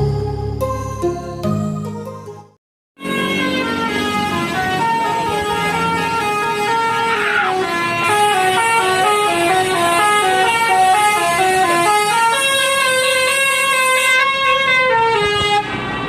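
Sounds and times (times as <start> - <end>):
musical bus air horn: 3.0 - 15.8.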